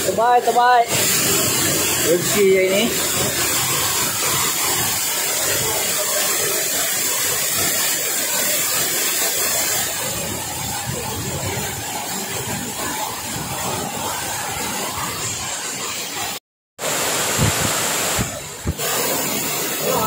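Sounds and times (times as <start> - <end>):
waterfall crashing into pool: 0.0 - 20.0.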